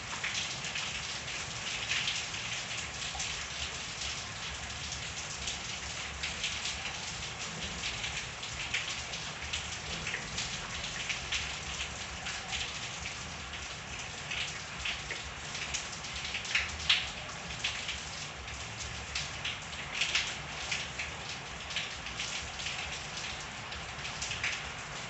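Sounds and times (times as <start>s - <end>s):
rain: 0.0s - 25.0s
raindrops splashing: 0.0s - 25.0s.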